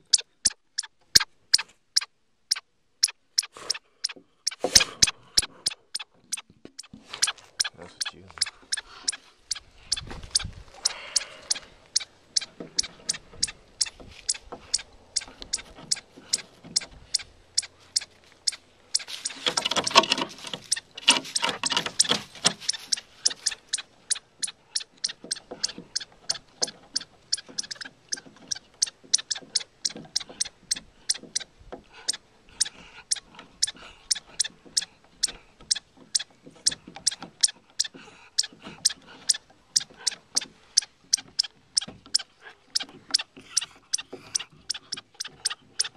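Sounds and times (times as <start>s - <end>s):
chipmunk alarm chips: 0.0s - 45.9s
dog sniffing: 3.4s - 45.9s.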